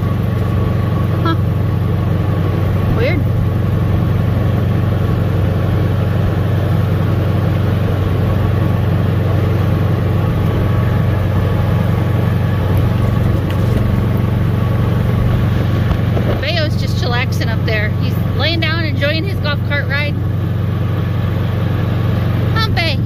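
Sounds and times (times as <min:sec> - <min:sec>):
golf cart running: 0:00.0 - 0:23.0.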